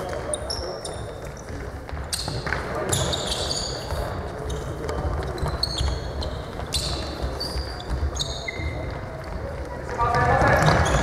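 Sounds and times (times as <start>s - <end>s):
shoes squeaking on floor: 0.0s - 11.0s.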